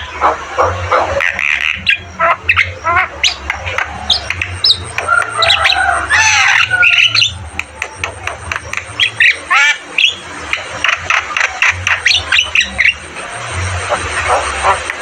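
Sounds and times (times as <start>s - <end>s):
bird squawking and whistling: 0.0s - 15.0s
steady low hum: 0.0s - 15.0s.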